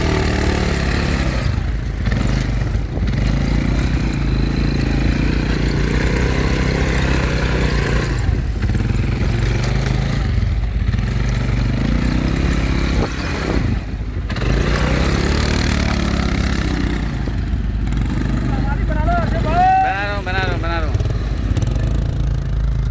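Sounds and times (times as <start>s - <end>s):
quad bike engine revving: 0.0s - 22.9s.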